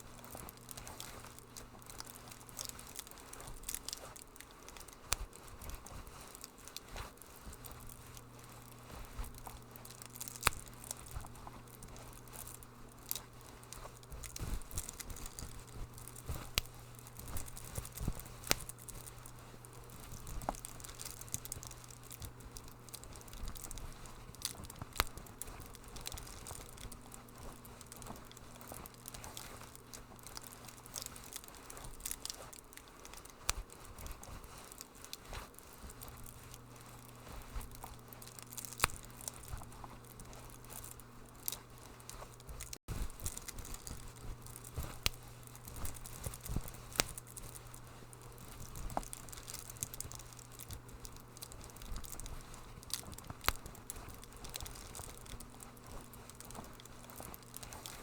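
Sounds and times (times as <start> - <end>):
soft steady hiss: 0.0 - 58.0
wood fire pops and snaps: 0.2 - 5.8, 6.4 - 35.2, 35.8 - 58.0.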